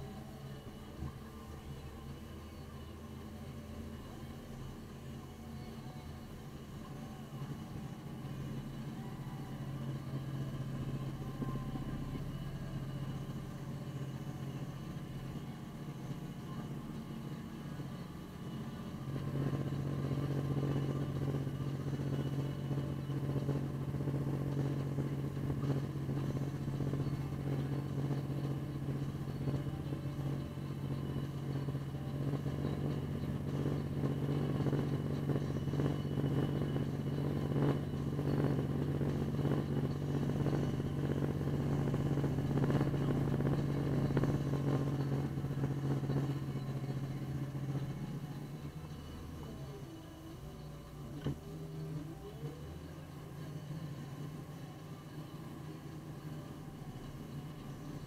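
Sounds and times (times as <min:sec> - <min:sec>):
snowplow engine droning: 0:00.0 - 0:58.0.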